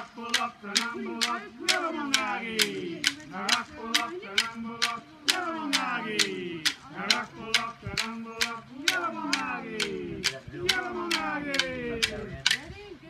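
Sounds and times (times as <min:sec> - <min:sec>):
person singing: 0:00.0 - 0:12.4
wooden clapsticks striking: 0:00.0 - 0:12.7.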